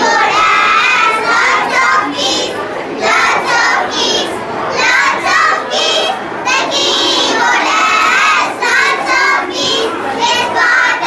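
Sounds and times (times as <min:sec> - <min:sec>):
young children shouting: 0:00.0 - 0:11.0.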